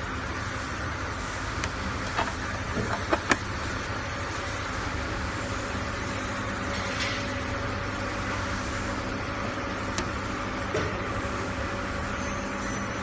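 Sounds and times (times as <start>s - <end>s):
induction furnace humming and hissing: 0.0s - 13.0s.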